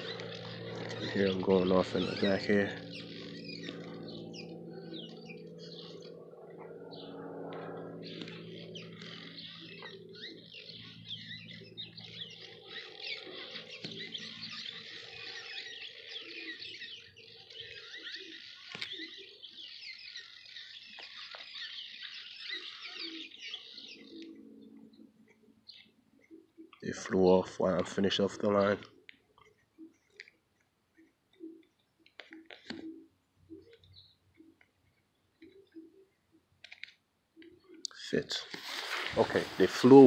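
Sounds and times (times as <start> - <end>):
birds chirping: 0.0 - 40.0
low steady hum: 0.0 - 40.0.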